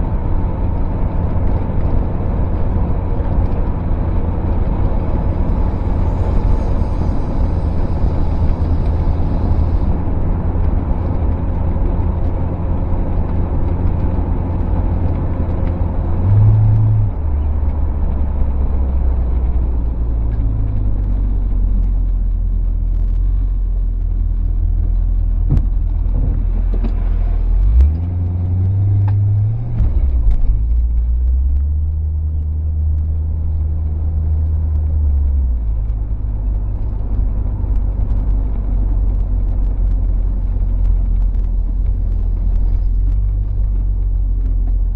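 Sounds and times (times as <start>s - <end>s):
car engine running: 0.0s - 44.9s
road noise: 0.0s - 44.9s.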